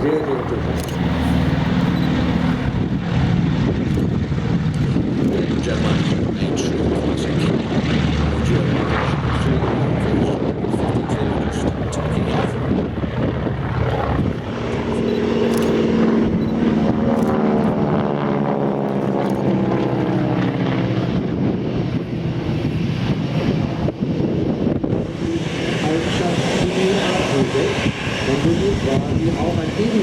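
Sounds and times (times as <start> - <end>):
airplane flying past: 0.0 - 30.0.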